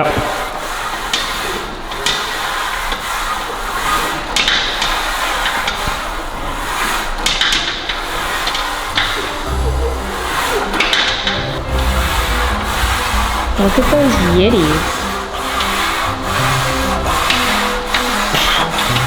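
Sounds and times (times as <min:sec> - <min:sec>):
metal weights clanking: 0:00.9 - 0:19.0.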